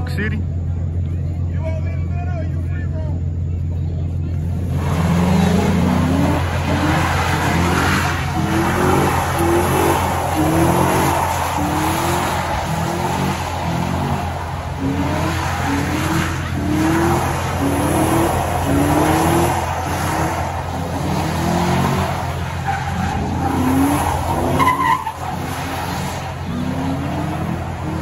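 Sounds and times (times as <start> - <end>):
truck engine revving: 0.0 - 28.0
tyres skidding: 0.0 - 28.0.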